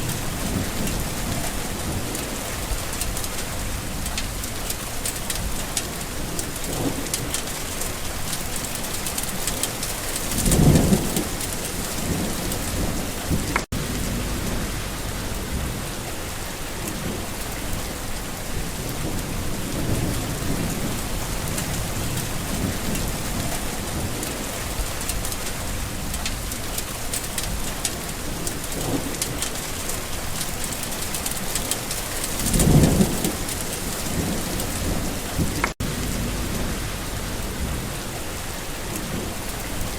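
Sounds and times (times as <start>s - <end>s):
distant thunder rolls: 0.0s - 39.9s
steady rain: 0.0s - 39.9s.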